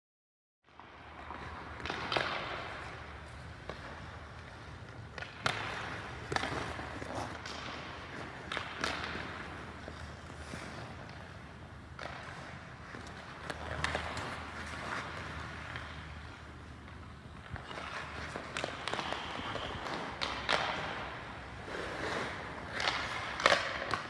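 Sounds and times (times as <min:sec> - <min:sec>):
skate blades scraping ice: 0:00.7 - 0:24.0
hockey sticks and pucks cracking: 0:00.8 - 0:24.0.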